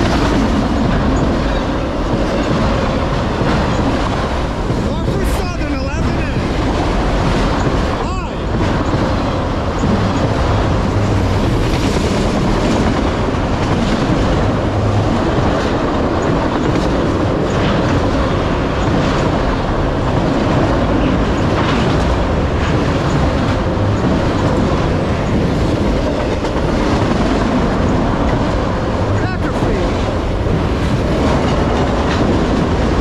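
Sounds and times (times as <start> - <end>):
train wheels rumbling on rail: 0.0 - 33.0
wheels clicking over rail joints: 0.0 - 33.0.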